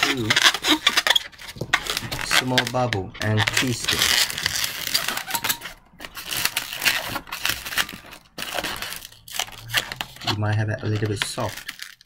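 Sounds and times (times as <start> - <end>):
balloons squeaking: 0.0 - 12.0.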